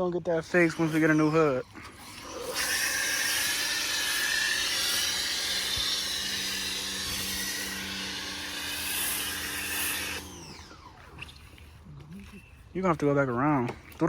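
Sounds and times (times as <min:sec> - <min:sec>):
pressure washer motor humming: 0:00.3 - 0:12.1.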